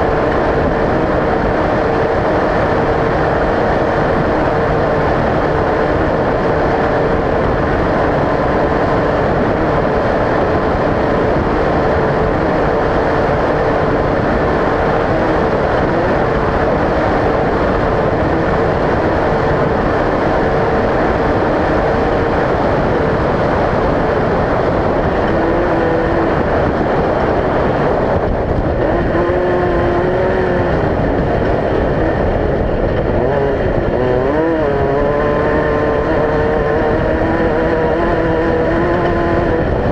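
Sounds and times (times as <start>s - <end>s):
loud steady rushing noise: 0.0s - 39.9s
race vehicle engine running hard: 0.0s - 39.9s.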